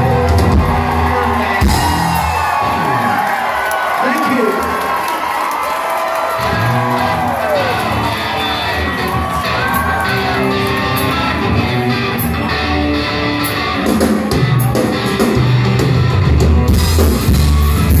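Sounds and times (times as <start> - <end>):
rock band playing loudly: 0.0 - 18.0.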